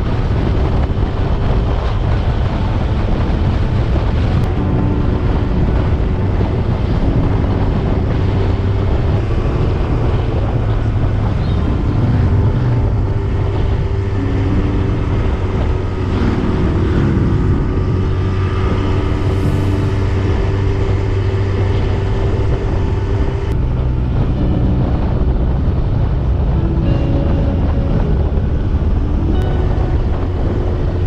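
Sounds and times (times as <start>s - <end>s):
motorcycle engine running: 0.0s - 31.0s
wind on microphone: 0.0s - 31.0s.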